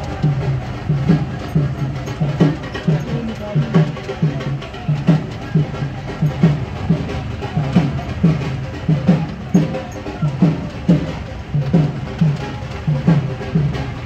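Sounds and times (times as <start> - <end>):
backing music: 0.0 - 14.0.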